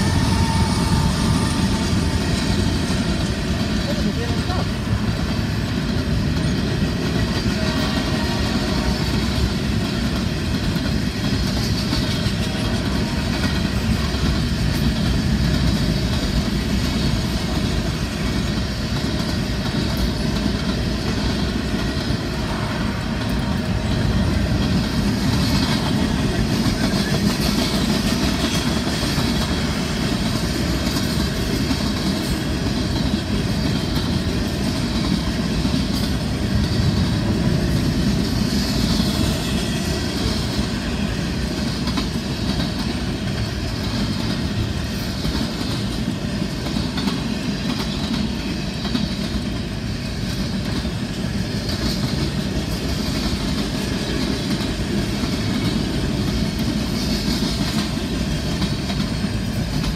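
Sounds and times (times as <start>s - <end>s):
train rumble: 0.0s - 59.9s
train wheels clicking on rails: 0.0s - 59.9s.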